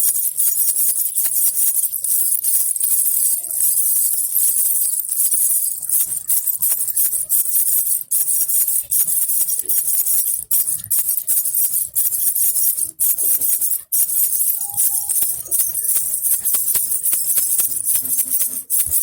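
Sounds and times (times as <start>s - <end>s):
jingle bell rattle shaken: 0.0s - 19.0s.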